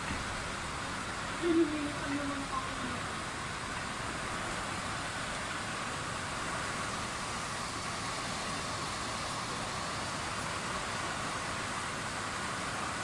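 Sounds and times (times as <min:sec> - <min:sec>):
heavy rain: 0:00.0 - 0:13.0
wind gusts: 0:00.0 - 0:13.0.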